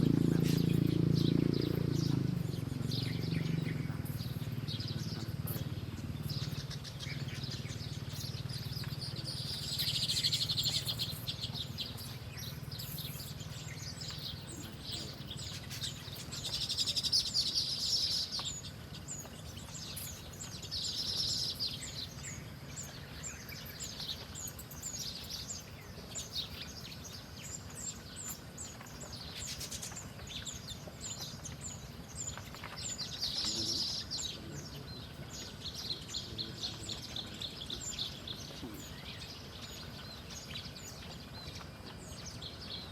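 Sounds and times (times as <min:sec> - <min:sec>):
rapid chattering birdsong: 0:00.0 - 0:42.9
small birds chirping: 0:00.0 - 0:42.9.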